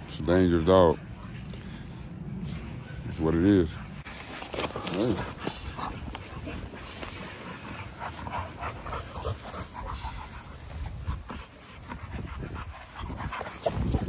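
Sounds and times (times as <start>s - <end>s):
dogs panting: 0.0s - 14.0s
dogs sniffing and scuffling: 0.0s - 14.0s.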